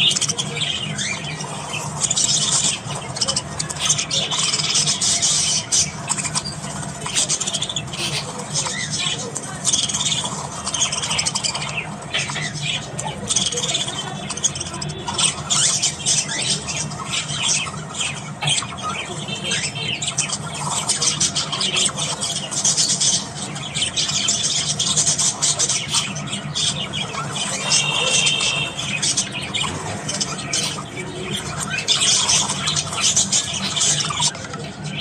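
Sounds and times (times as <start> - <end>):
budgerigars chirping and squawking: 0.0 - 35.0.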